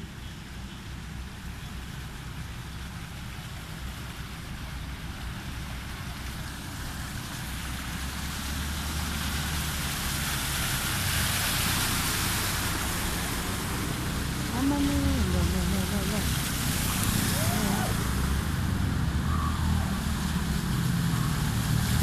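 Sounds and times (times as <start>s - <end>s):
wheels splashing water: 0.0s - 22.0s
hiss of water: 1.0s - 22.0s.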